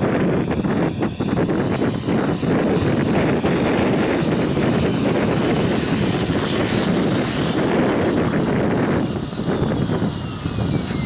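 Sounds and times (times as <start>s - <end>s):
faint high whine: 0.0s - 11.0s
rc helicopter rotor rushing: 0.0s - 11.0s.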